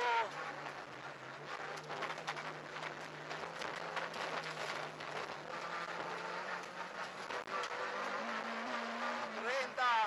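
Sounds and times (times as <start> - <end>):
rally car engine: 0.0 - 10.0.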